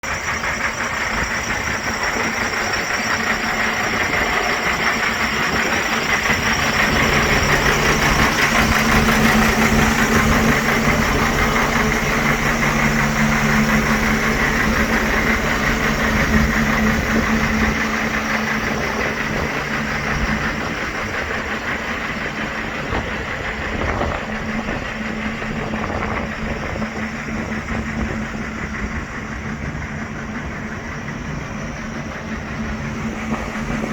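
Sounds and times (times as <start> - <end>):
diesel truck engine humming: 0.0 - 33.9.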